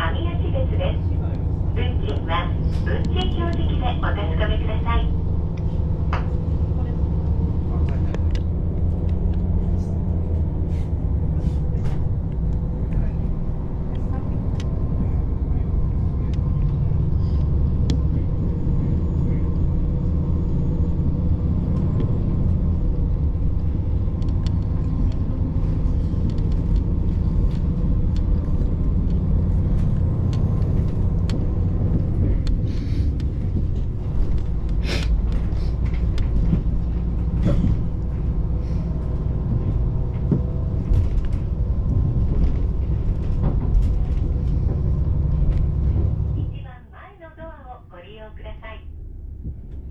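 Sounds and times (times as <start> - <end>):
train engine and wheel rumble: 0.0 - 49.9.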